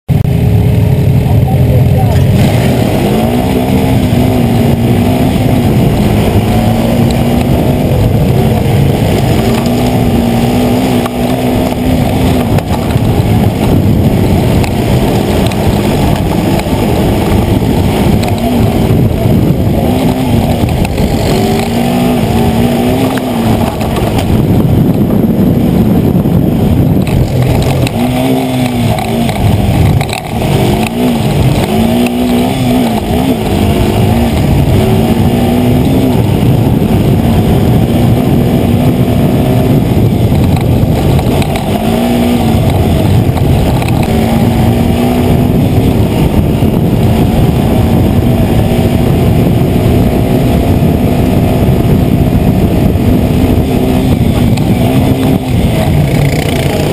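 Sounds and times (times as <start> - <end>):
quad engine revving: 0.1 - 56.9.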